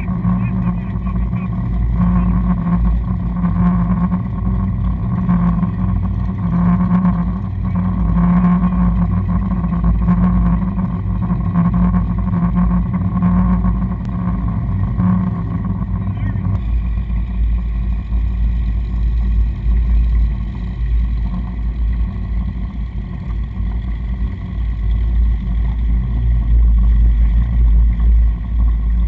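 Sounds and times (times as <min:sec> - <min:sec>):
powerboat engines droning: 0:00.0 - 0:29.0.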